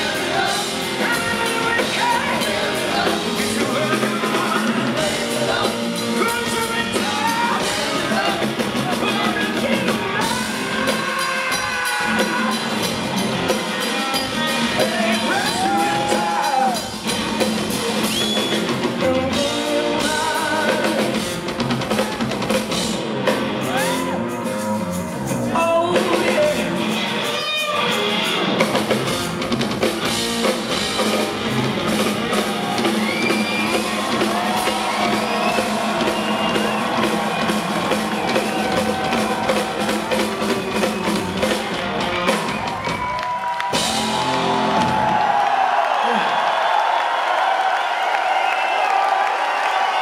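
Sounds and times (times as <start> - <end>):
crowd cheering: 0.0 - 25.4, 27.2 - 50.0
drum kit: 0.0 - 47.6
rock band playing live: 0.0 - 47.7.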